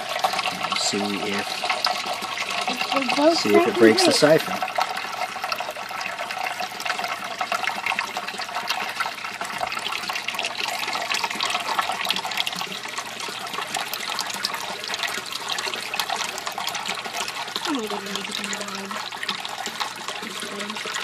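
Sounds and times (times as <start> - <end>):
water running and trickling: 0.0 - 21.0.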